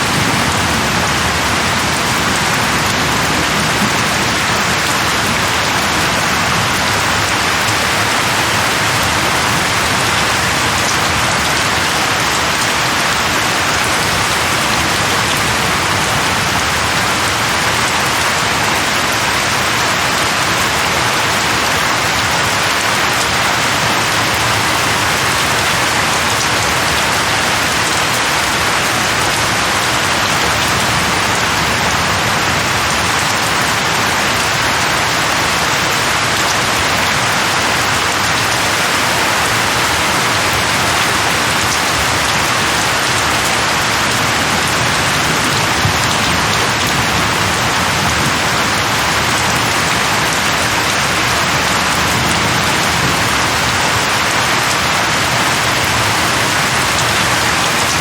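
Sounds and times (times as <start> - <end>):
rain falling on leaves: 0.0 - 58.0.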